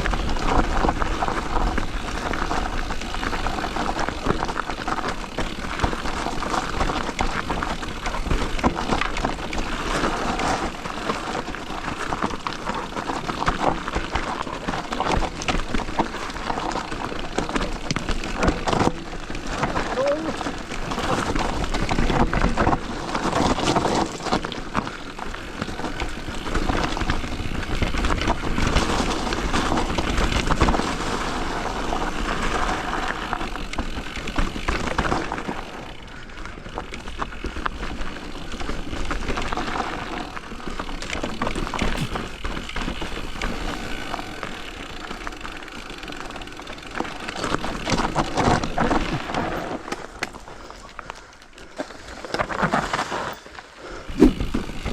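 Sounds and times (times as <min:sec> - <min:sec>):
bike rattling over bumps: 0:00.0 - 0:54.9
bike tyres rolling over dirt: 0:00.0 - 0:54.9.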